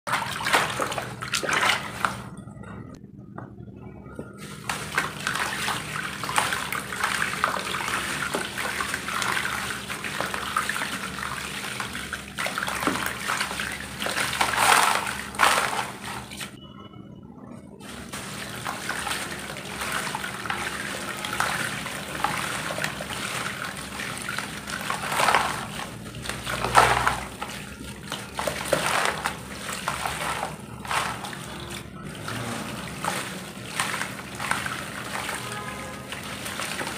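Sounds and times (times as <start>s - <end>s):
hands splashing water in tub: 0.1s - 2.4s, 4.4s - 16.6s, 17.8s - 36.9s.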